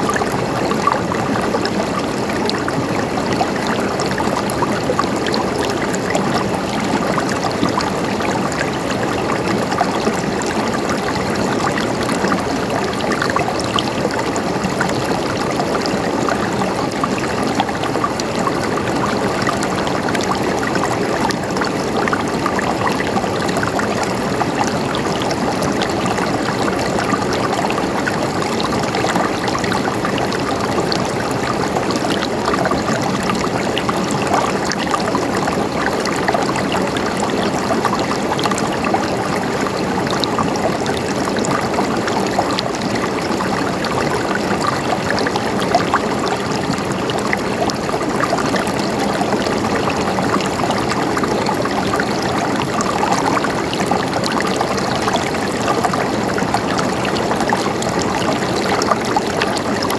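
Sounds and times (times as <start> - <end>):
stream flowing and gurgling: 0.0 - 59.9
water splashing and trickling: 0.0 - 59.9.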